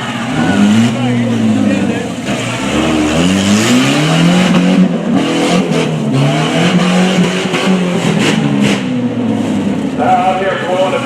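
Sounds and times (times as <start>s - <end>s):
big vehicle engine revving: 0.0s - 11.0s.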